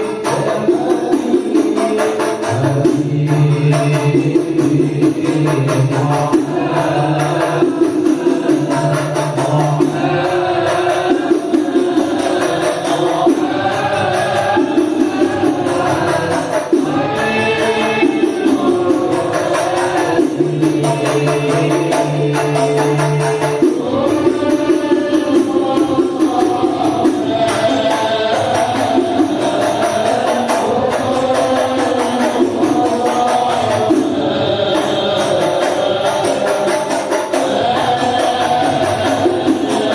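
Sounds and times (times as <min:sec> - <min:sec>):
frame drum: 0:00.0 - 0:39.9
voices singing a chant: 0:00.0 - 0:39.9.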